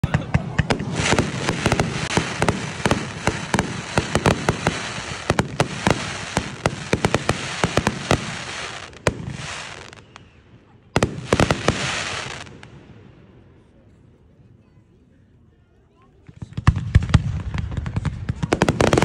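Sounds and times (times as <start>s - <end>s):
fireworks bangs and crackling: 0.0s - 13.4s, 16.2s - 19.0s.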